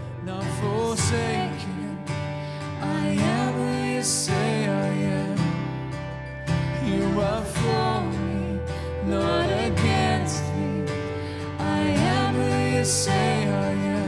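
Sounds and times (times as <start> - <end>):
guitar accompaniment: 0.0 - 14.0
person singing: 0.1 - 5.8, 6.5 - 14.0.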